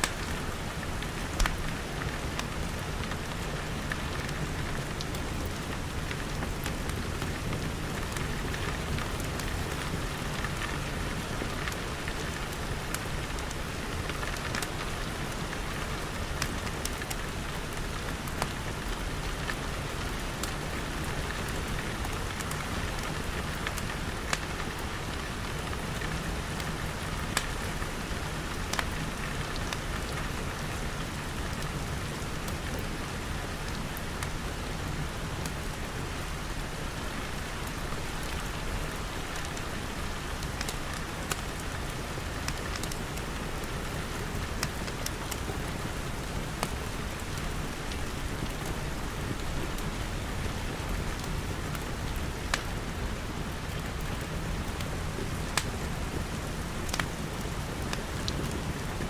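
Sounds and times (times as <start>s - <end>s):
wood fire crackling: 0.0s - 32.9s, 35.4s - 59.0s
rain pattering on glass: 0.0s - 59.0s.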